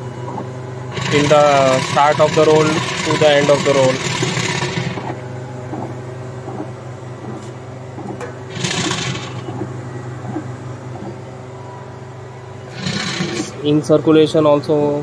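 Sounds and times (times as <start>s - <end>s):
print-head carriage whirring: 0.0s - 13.9s
printer machine hum: 0.0s - 15.0s.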